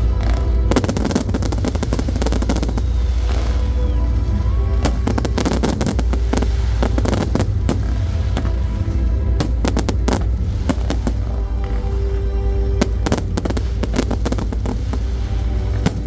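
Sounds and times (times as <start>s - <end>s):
continuous low rumble: 0.0s - 16.0s
fireworks bursting and crackling: 0.0s - 16.0s
music playing: 0.0s - 16.0s.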